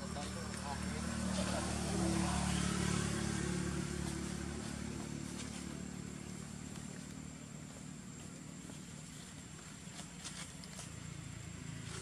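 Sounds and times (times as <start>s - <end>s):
motor engine humming: 0.0s - 12.0s.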